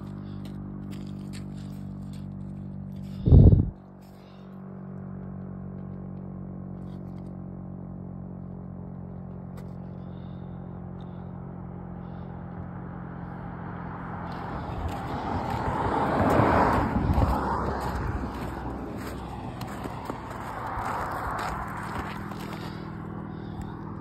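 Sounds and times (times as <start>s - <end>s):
low drone: 0.0s - 24.0s.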